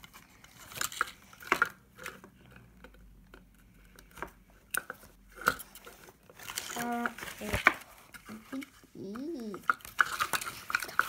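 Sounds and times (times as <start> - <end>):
faint rustling: 0.0 - 11.0.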